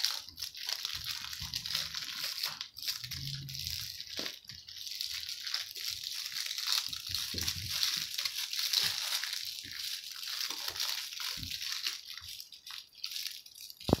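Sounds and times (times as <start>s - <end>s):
puppies chewing plush toys: 0.0s - 14.0s.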